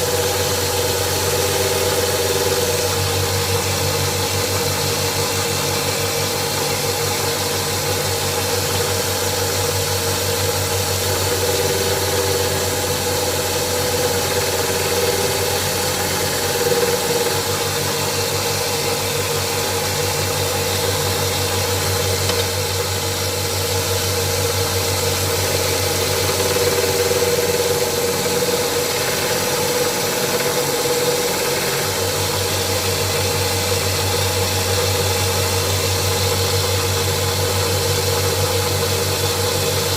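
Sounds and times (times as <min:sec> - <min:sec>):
belt sander motor hum: 0:00.0 - 0:39.9
steel grinding on abrasive belt: 0:00.0 - 0:39.9.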